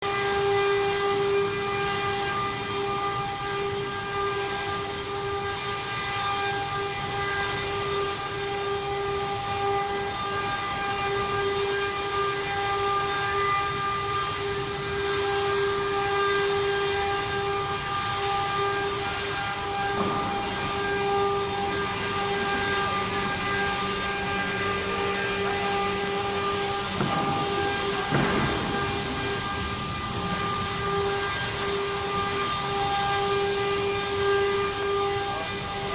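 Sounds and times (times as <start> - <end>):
router spindle whine: 0.1 - 35.9
wood cutting hiss: 3.6 - 35.3.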